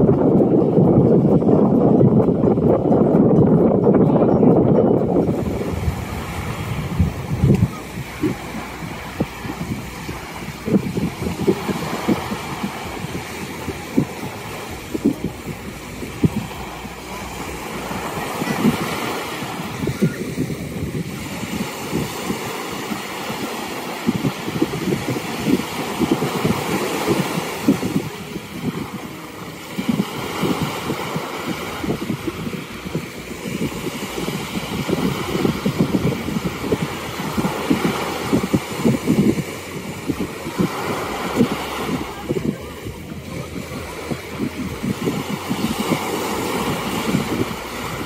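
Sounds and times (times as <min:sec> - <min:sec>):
ocean surf washing: 0:00.0 - 0:48.0
wind buffeting microphone: 0:00.0 - 0:48.0.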